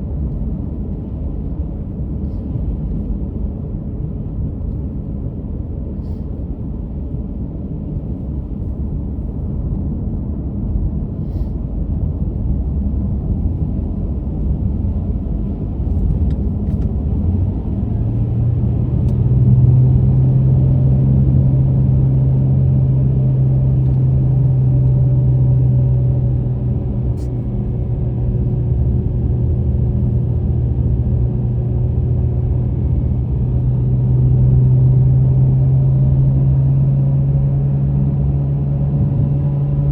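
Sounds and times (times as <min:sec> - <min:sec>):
car tyres and engine rumble: 0:00.0 - 0:39.9
steady low drone: 0:00.0 - 0:39.9.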